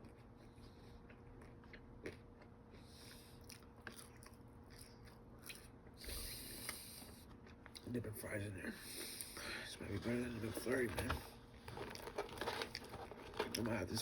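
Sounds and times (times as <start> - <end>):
chewing and crunching fries: 0.0 - 14.0.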